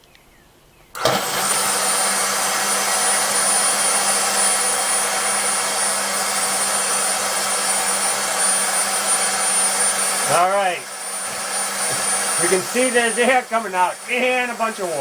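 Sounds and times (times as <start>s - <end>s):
air pump whining: 0.9s - 15.0s
air blowing from hose: 1.0s - 15.0s.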